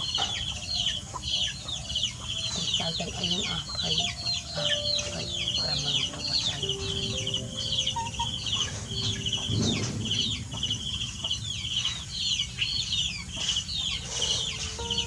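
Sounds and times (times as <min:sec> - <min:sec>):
birds chirping and twittering: 0:00.0 - 0:15.0
low noisy background: 0:00.0 - 0:15.0.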